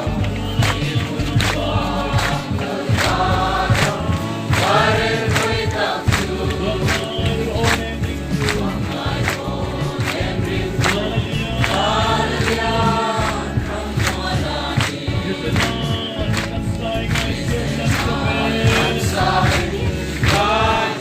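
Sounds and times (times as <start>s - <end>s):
group singing gospel song: 0.0s - 21.0s
steady drum beat: 0.0s - 21.0s.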